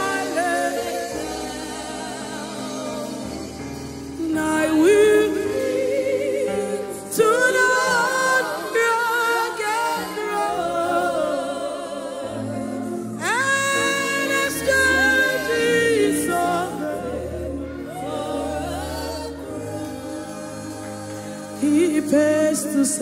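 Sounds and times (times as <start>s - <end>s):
woman singing with vibrato: 4.2s - 23.0s.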